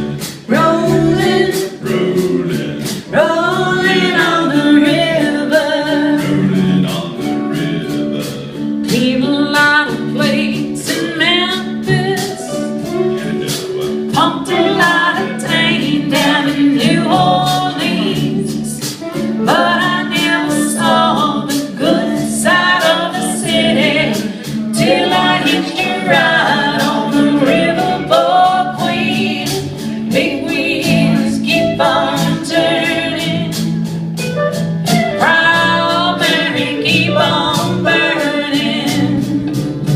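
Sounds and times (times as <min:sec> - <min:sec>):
voices singing in harmony: 0:00.0 - 0:39.9.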